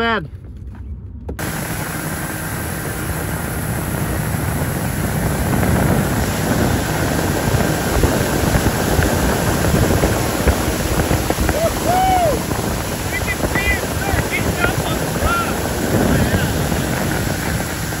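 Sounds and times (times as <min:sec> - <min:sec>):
boat engine running: 0:00.0 - 0:18.0
water rushing past motorboat: 0:01.4 - 0:18.0
wind rushing: 0:01.4 - 0:18.0.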